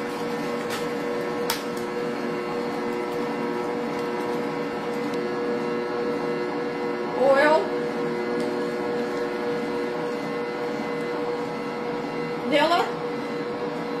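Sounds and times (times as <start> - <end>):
stand mixer motor hum: 0.0 - 14.0.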